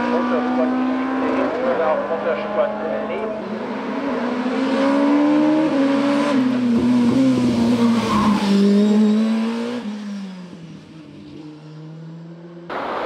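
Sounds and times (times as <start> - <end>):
race car engine at high revs: 0.0 - 13.0.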